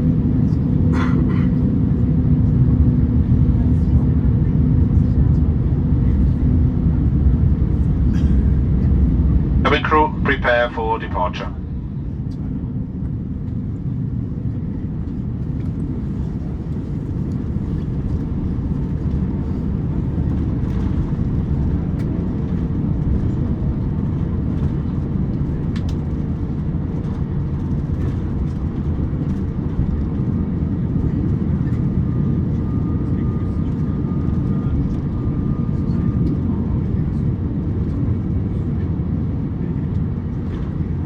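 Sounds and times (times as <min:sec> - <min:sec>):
aircraft cabin engine rumble: 0:00.0 - 0:41.0
constant hum: 0:00.0 - 0:41.0.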